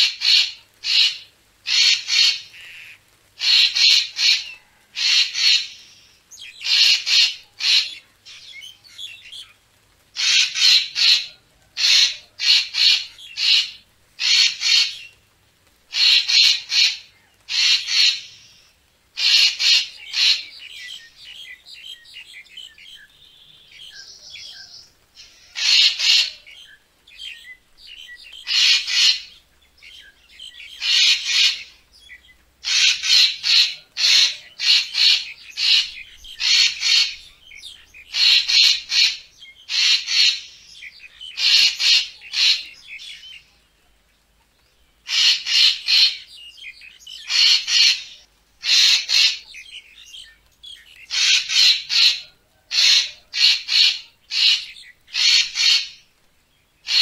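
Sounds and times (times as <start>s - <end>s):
bird harsh calls: 0.0s - 15.2s, 15.9s - 43.6s, 45.0s - 56.2s, 56.8s - 57.0s.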